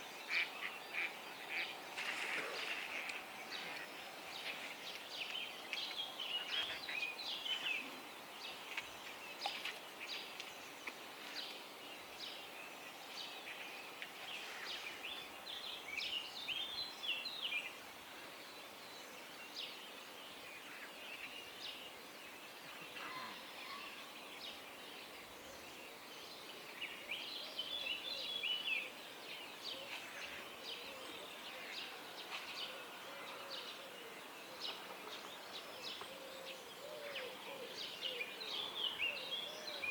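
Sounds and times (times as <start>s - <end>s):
faint outdoor hiss: 0.0s - 39.9s
songbirds chirping and twittering: 0.0s - 39.9s.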